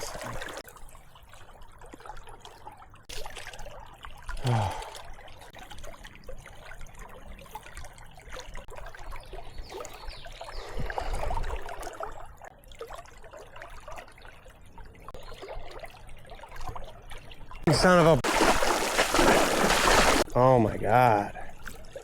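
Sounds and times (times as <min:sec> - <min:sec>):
river water trickling: 0:00.0 - 0:22.0.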